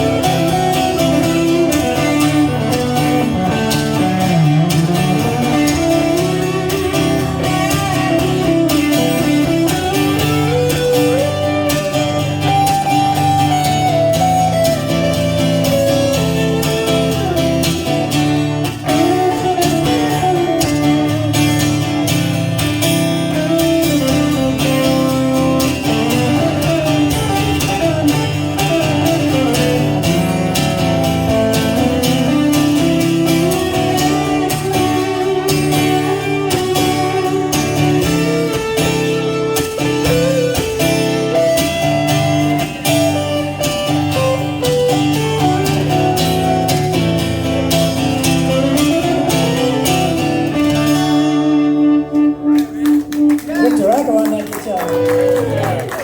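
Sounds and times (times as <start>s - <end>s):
lead guitar bending notes: 0.0s - 56.0s
live band playing: 0.0s - 56.0s.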